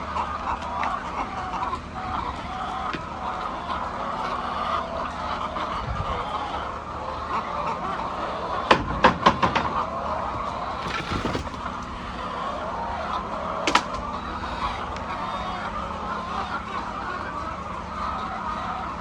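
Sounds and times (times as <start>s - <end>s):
hens clucking: 0.0s - 8.9s, 9.5s - 19.0s.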